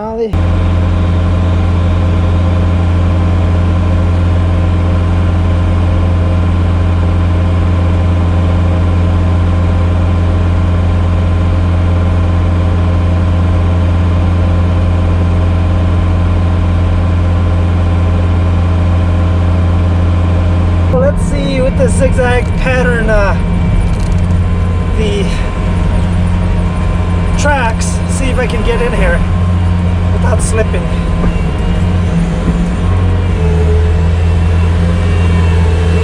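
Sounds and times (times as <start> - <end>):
vehicle engine low drone: 0.0 - 36.0.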